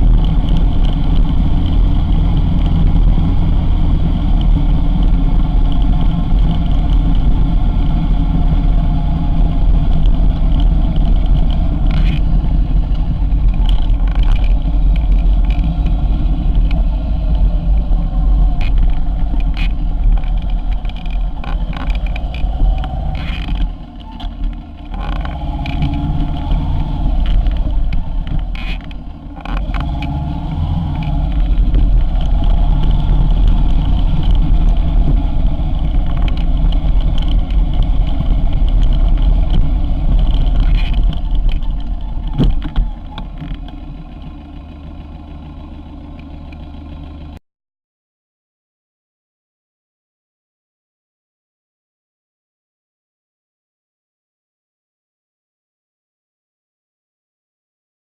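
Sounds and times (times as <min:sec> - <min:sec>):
motorcycle engine running: 0:00.0 - 0:47.4
road rumble: 0:00.0 - 0:47.4.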